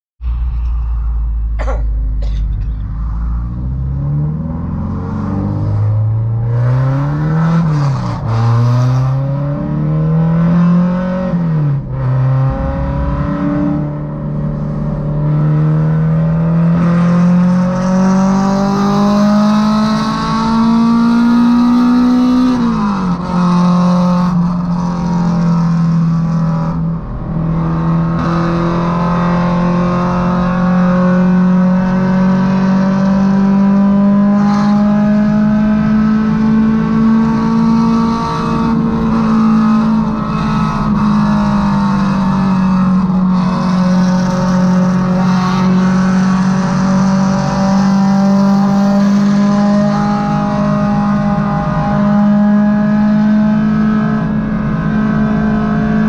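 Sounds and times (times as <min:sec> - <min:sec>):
car engine accelerating through gears: 0:00.5 - 0:56.0.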